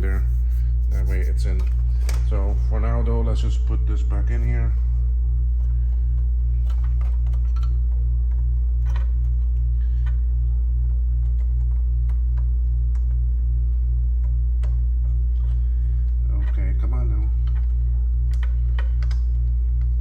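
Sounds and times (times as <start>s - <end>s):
pulsing low hum: 0.0s - 20.0s.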